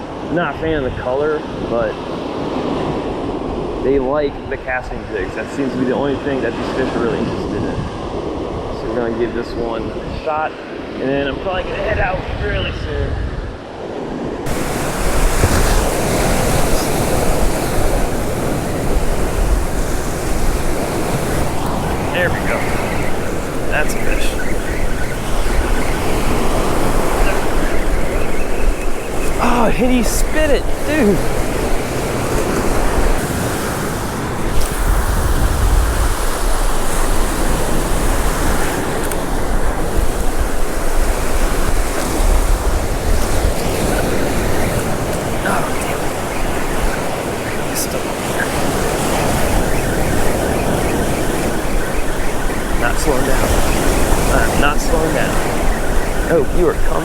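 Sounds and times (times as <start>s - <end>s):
surf breaking on beach: 0.0s - 57.0s
wind rumbling on microphone: 0.0s - 57.0s.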